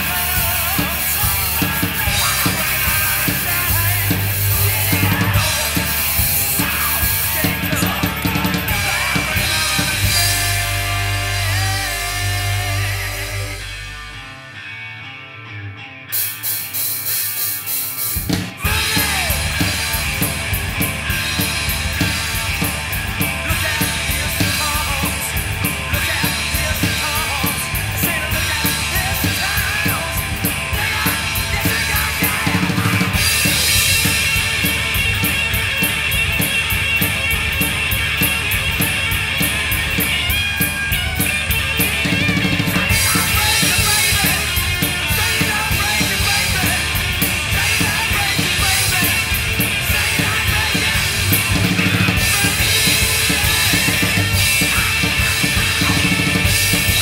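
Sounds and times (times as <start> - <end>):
rock drum kit with crash cymbals: 0.0 - 14.7, 16.1 - 57.0
loud hard rock music: 0.0 - 57.0.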